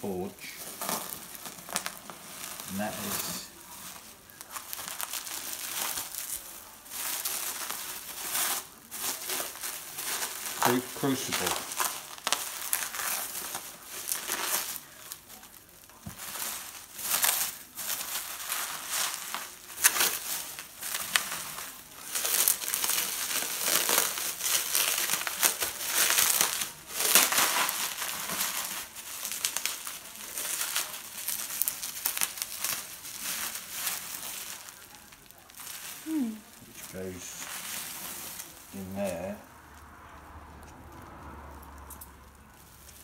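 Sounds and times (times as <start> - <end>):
bubble wrap crinkling: 0.0 - 43.0.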